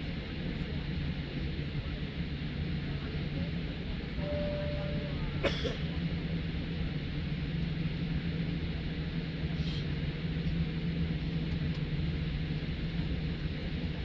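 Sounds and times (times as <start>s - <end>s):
aircraft cabin hum: 0.0s - 14.0s
engine and air system drone: 0.0s - 14.0s.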